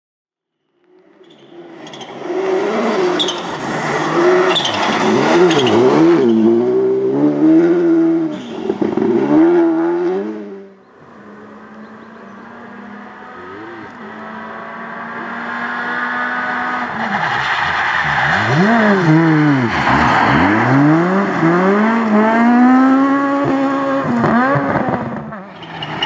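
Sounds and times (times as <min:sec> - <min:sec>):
rally car engine revving: 0:01.2 - 0:26.0
steady car engine: 0:01.7 - 0:26.0.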